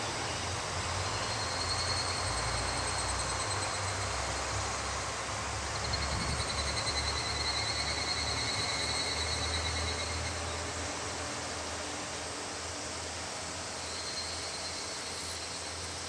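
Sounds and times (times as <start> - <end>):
diesel railcar rumbling: 0.0 - 16.0
insects trilling: 0.0 - 16.0.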